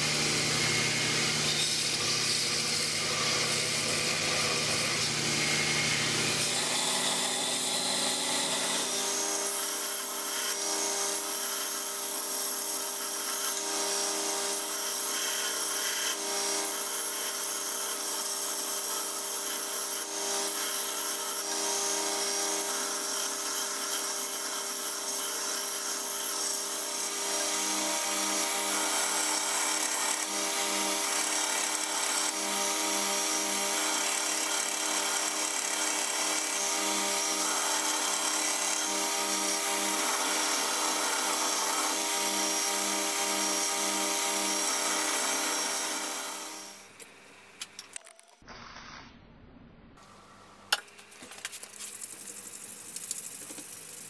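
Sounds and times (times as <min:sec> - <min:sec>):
belt grinder humming: 0:00.0 - 0:47.0.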